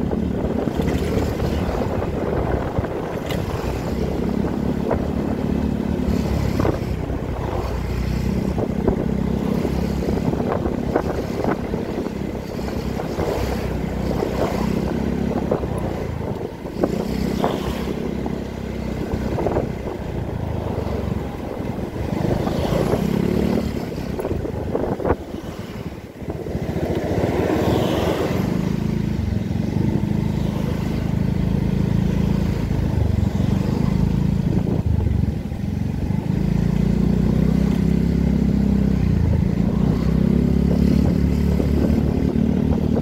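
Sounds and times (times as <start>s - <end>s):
scooter engine running: 0.0s - 43.0s
wind rumble on microphone: 0.0s - 43.0s.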